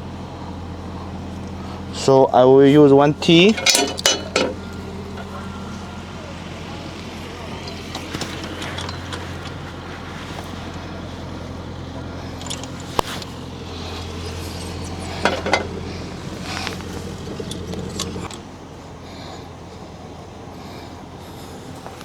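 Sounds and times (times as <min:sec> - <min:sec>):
steady low hum: 0:00.0 - 0:22.0
metal tools clinking: 0:00.9 - 0:18.5.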